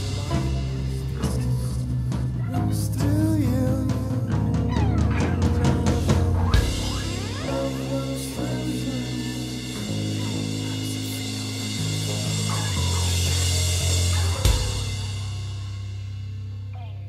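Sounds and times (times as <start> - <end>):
background music with bass notes: 0.0 - 17.0.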